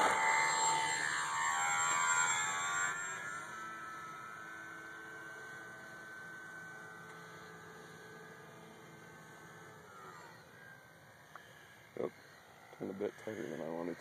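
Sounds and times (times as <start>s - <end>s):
model airplane motor whine: 0.0s - 14.0s.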